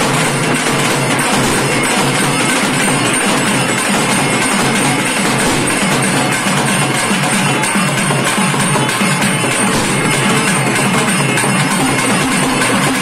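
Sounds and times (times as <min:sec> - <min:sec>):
drum-driven festival music: 0:00.0 - 0:13.0.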